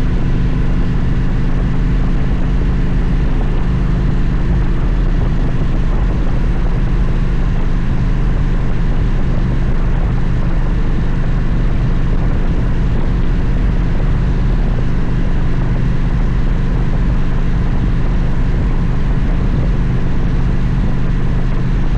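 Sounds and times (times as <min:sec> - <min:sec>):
motorcycle engine cruising: 0:00.0 - 0:21.9.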